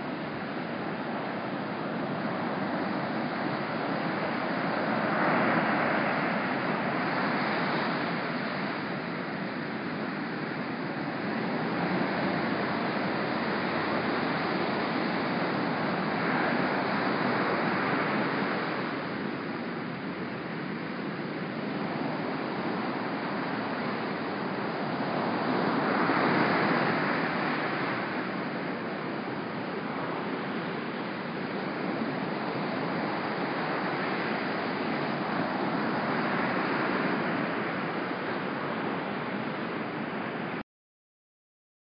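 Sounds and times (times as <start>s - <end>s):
surf breaking on beach: 0.0s - 40.6s.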